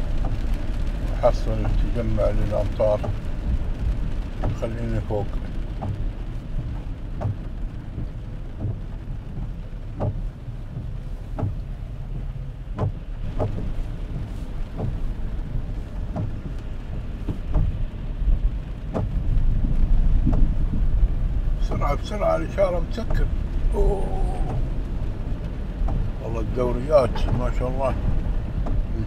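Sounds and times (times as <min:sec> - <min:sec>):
rain falling on car: 0:00.0 - 0:29.0
road and engine rumble: 0:00.0 - 0:29.0
windscreen wipers sweeping: 0:00.0 - 0:29.0.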